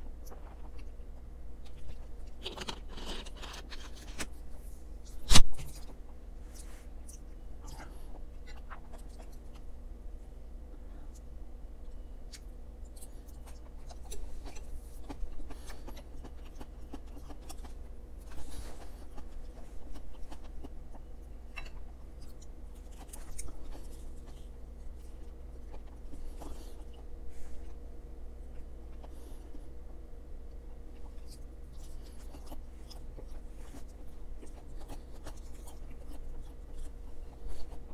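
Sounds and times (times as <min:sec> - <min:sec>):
person chewing food: 0:00.0 - 0:09.8, 0:10.7 - 0:37.9
faint steady hum: 0:00.0 - 0:37.9.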